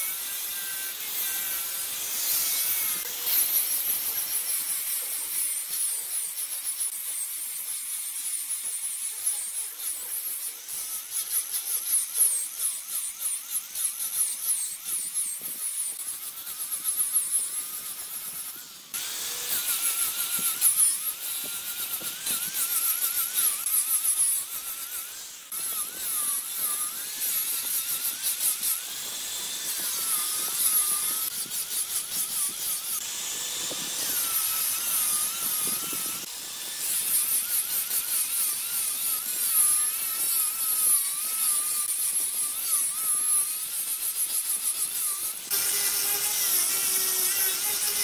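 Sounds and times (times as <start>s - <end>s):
wood lathe cutting wood: 0.0s - 48.0s.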